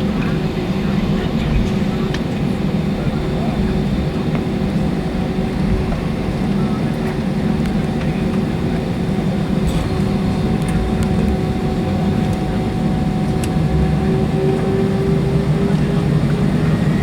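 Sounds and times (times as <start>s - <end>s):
jet engines rumbling and humming: 0.0s - 17.0s.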